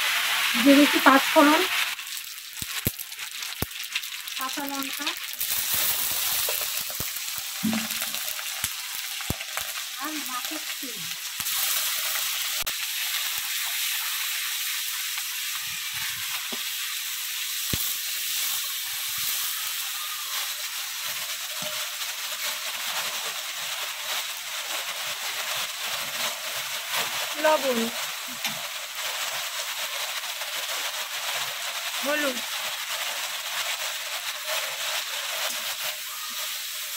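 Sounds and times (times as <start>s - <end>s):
spices sizzling in oil: 0.0s - 36.9s.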